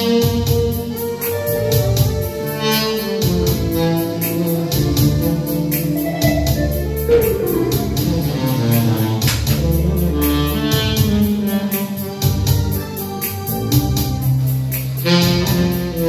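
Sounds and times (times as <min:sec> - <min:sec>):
keyboard: 0:00.0 - 0:16.0
saxophone: 0:00.0 - 0:16.0
steady drum beat: 0:00.0 - 0:16.0.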